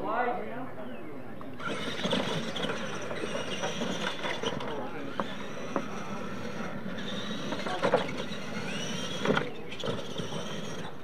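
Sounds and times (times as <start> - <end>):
electric motor and gear whine: 1.6 - 11.0
toy trucks landing and clattering: 1.6 - 11.0.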